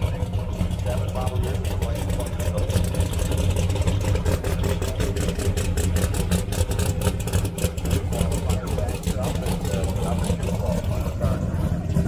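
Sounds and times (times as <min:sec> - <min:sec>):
race car engine rough idle: 0:00.0 - 0:12.0.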